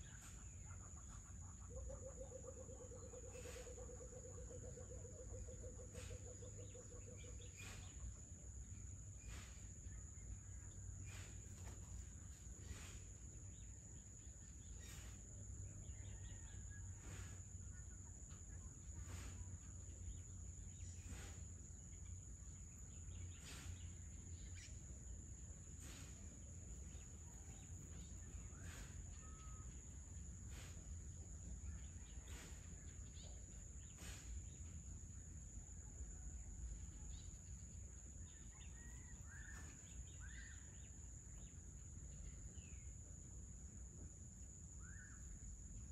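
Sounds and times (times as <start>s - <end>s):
faint bird calls: 0.0s - 34.8s, 37.0s - 42.9s.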